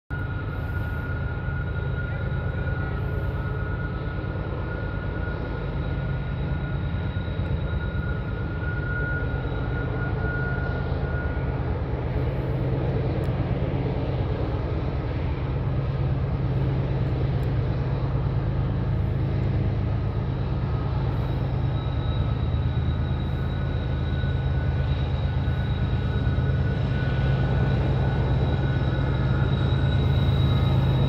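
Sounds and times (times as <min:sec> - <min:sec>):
freight train rumbling: 0:00.1 - 0:31.0
thin steady whine: 0:00.1 - 0:31.0.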